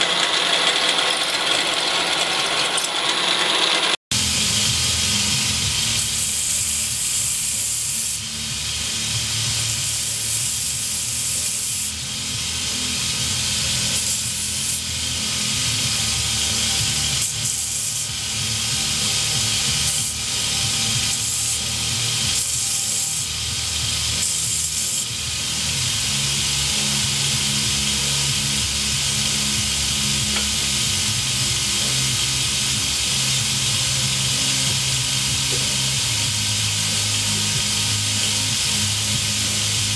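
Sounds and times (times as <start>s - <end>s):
grinder motor hum: 0.0s - 39.9s
grinding hiss of metal: 4.2s - 39.9s.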